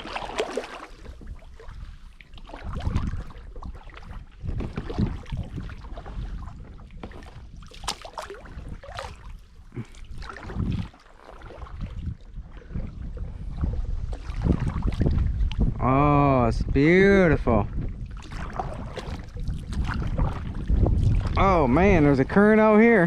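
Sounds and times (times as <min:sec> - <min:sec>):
water lapping around kayak: 0:00.0 - 0:23.0.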